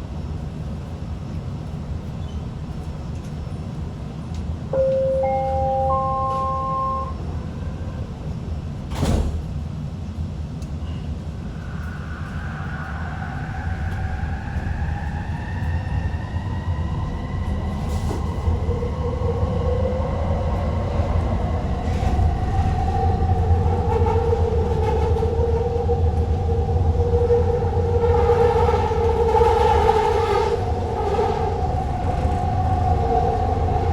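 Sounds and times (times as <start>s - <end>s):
train rumble: 0.0s - 33.9s.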